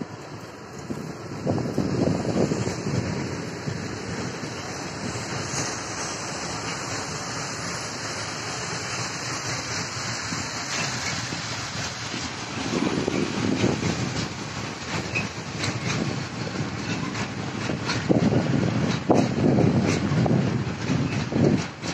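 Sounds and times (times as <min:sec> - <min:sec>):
freight train rumbling past: 0:00.0 - 0:21.9
wind buffeting microphone: 0:00.0 - 0:21.9.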